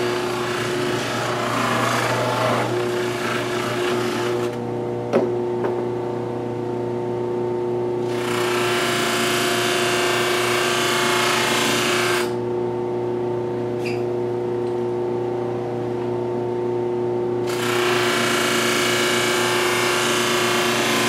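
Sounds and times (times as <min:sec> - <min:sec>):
bench buffer motor hum: 0:00.0 - 0:21.0.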